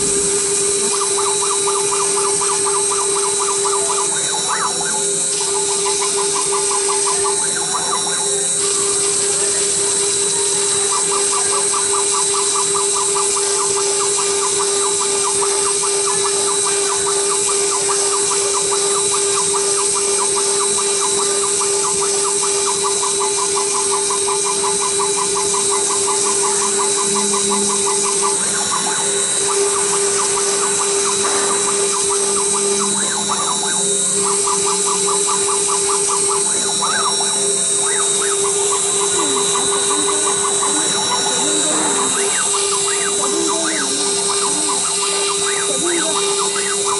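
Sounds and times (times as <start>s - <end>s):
fast pulsing rattle: 0.0s - 46.9s
router spindle whining: 0.0s - 46.9s.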